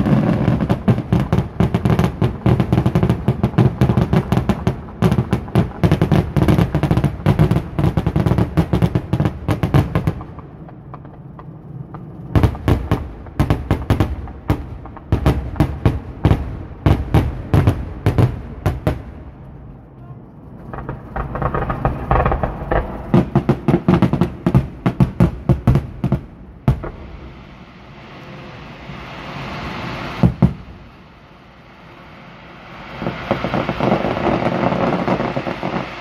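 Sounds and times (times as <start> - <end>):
fireworks bangs: 0.0 - 36.0.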